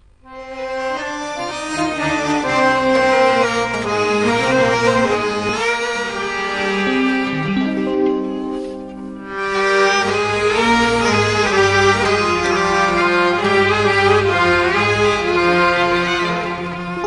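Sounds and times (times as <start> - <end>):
accordion melody: 0.2 - 17.0
traditional ensemble music: 0.4 - 17.0.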